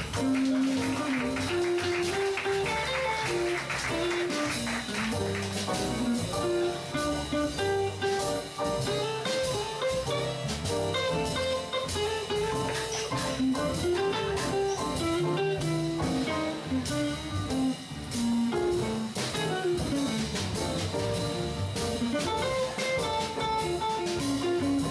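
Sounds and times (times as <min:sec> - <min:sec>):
drums: 0:00.0 - 0:24.9
guitar melody: 0:00.0 - 0:24.9.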